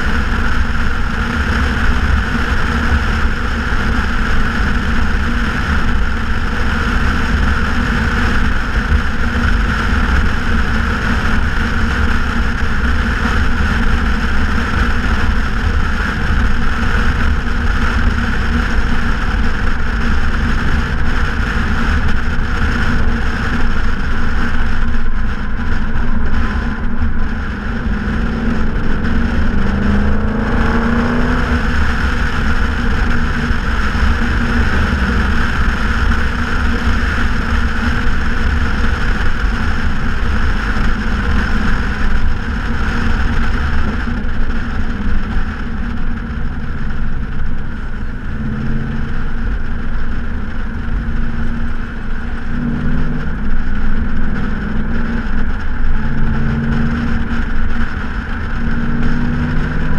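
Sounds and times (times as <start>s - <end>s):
car engine exhaust drone: 0.0s - 59.9s
road noise: 0.0s - 59.9s.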